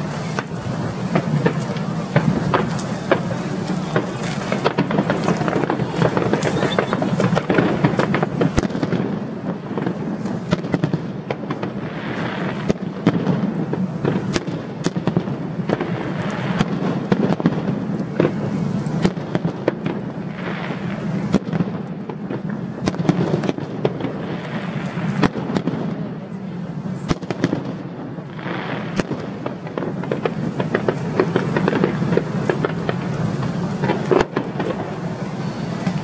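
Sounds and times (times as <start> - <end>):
fireworks bangs: 0.0 - 36.0
fireworks crackling: 0.0 - 36.0.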